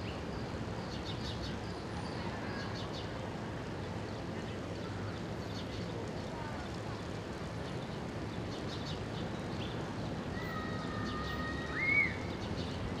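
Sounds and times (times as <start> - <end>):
distant traffic rumble: 0.0 - 13.0
small birds chirping: 0.0 - 13.0.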